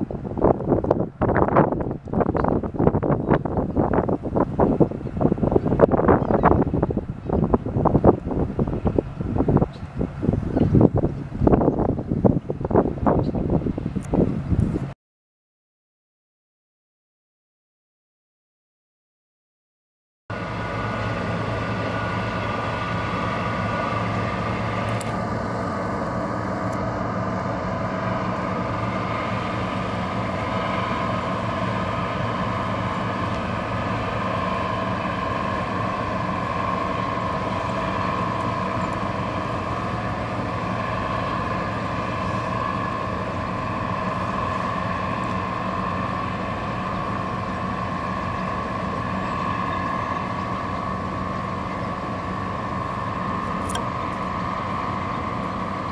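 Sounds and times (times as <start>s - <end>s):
diesel engine droning: 0.0s - 15.0s, 20.3s - 55.9s.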